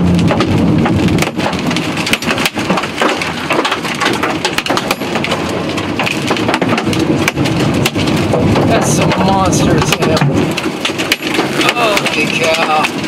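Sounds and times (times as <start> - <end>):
hail clattering on car roof: 0.0 - 13.0
rain hissing: 0.0 - 13.0.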